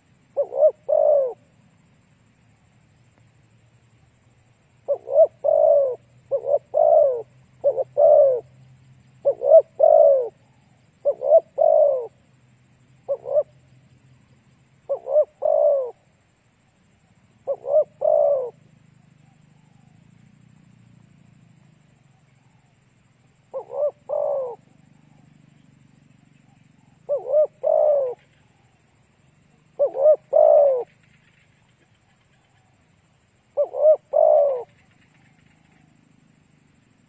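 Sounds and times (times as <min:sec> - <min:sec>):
dove cooing: 0:00.0 - 0:01.6, 0:04.8 - 0:13.7, 0:14.4 - 0:16.4, 0:17.0 - 0:20.2, 0:21.6 - 0:36.7.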